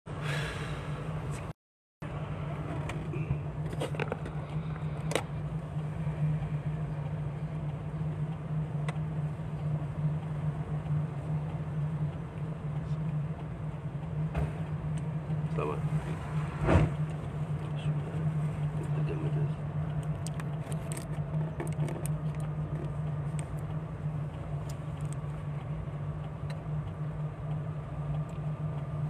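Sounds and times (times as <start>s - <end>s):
car engine and road hum: 0.1s - 29.0s.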